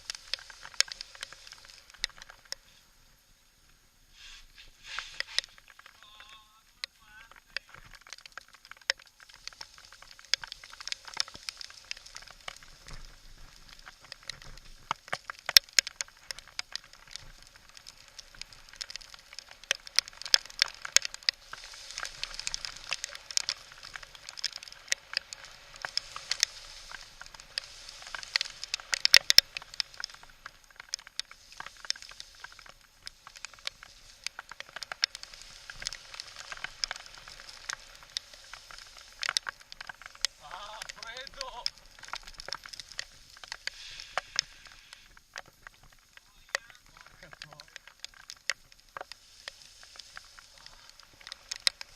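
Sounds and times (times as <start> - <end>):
heavy rain hiss: 0.0 - 51.9.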